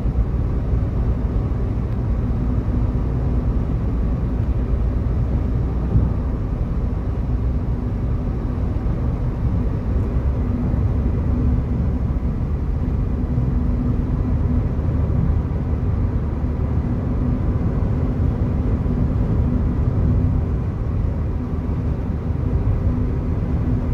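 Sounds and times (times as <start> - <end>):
road traffic noise: 0.0 - 23.9.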